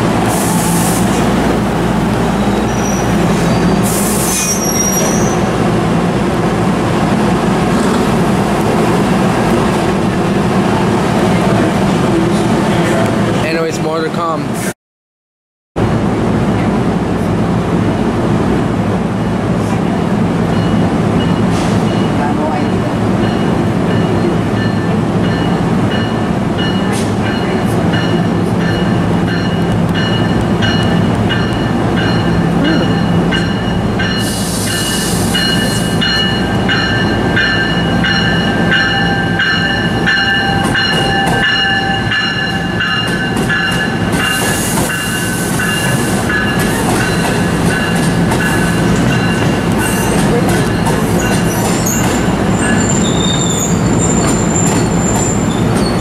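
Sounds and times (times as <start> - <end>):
train rumbling past: 0.0 - 14.8, 15.8 - 56.0.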